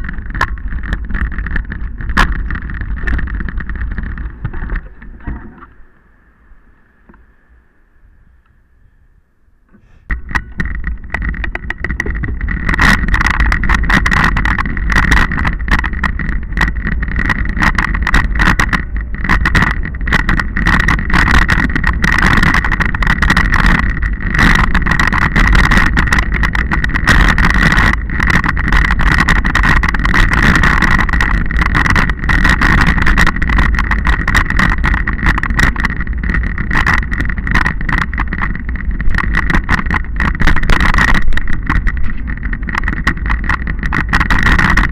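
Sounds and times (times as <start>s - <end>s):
low wind rumble: 0.0s - 44.9s.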